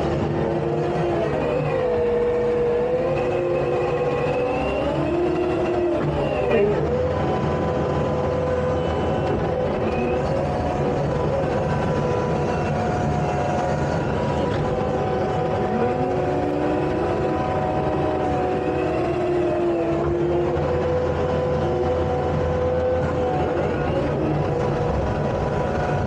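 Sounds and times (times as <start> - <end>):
hydraulic whining tones: 0.0 - 26.0
low engine drone: 0.0 - 26.0.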